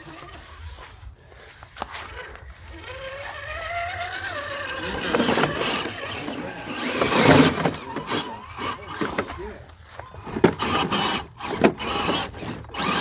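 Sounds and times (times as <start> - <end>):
electric motor and gears whining: 0.0 - 13.0
rough scraping and crunching: 0.0 - 13.0.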